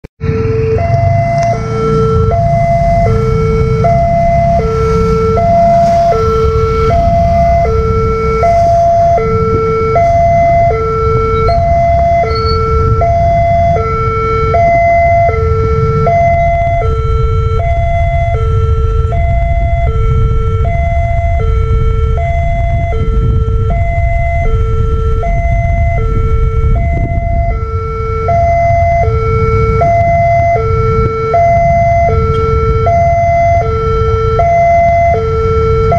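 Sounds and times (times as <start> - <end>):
low rumble: 0.2 - 35.9
two-tone warning siren: 0.2 - 35.9.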